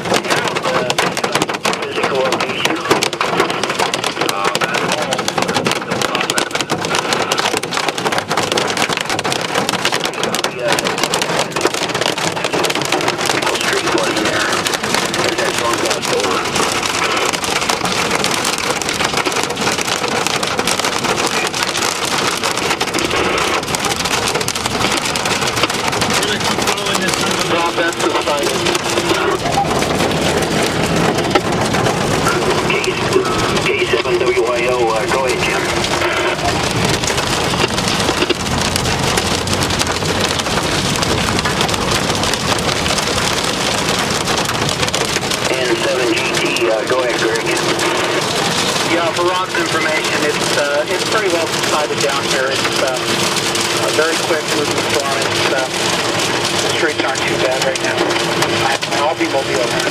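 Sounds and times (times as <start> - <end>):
hail and rain on vehicle roof: 0.0 - 59.9.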